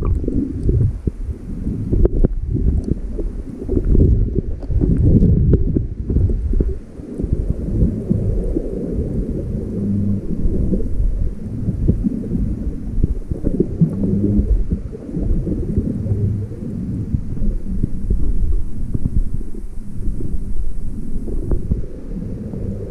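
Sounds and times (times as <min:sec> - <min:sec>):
small crackles: 0:00.0 - 0:22.9
underwater rumble of moving water: 0:00.0 - 0:22.9.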